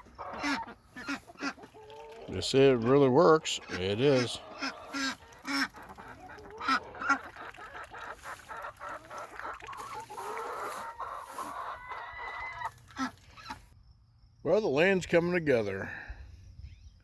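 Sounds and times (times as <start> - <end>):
hens clucking: 0.0 - 13.7.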